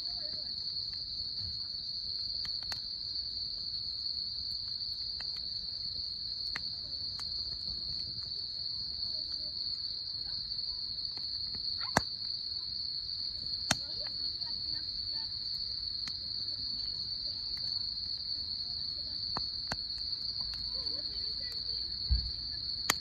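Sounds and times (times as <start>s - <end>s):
campfire clicks and pops: 0.0s - 23.0s
crickets trilling: 0.0s - 23.0s.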